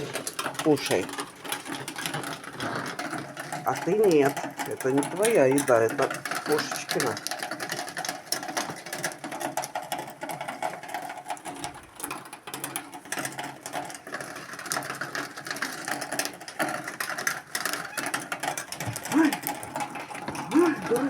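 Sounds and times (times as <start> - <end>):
rapid clicking of pecking: 0.0 - 21.0.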